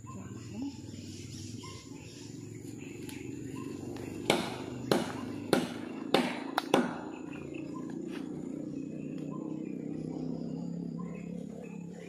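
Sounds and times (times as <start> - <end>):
low steady drone: 0.0 - 12.0.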